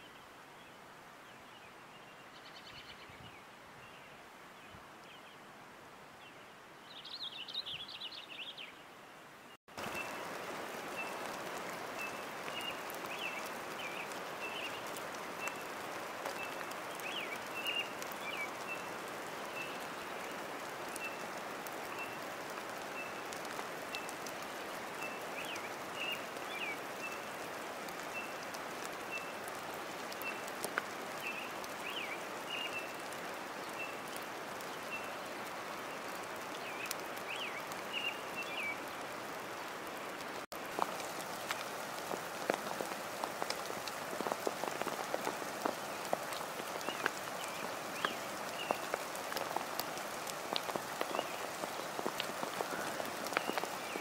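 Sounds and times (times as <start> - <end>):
rain-like hiss: 0.0 - 54.0.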